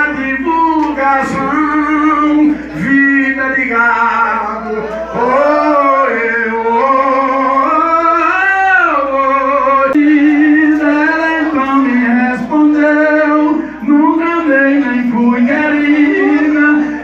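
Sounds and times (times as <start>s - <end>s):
man singing long notes: 0.0s - 17.0s.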